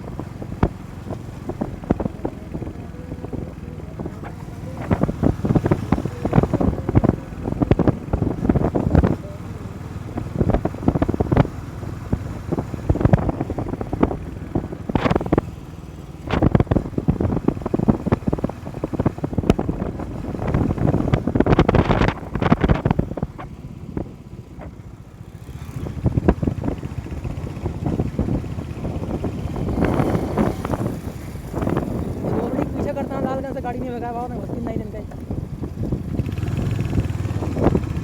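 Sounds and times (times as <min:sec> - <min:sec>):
motorcycle riding: 0:00.0 - 0:38.0
wind buffeting microphone: 0:00.0 - 0:38.0.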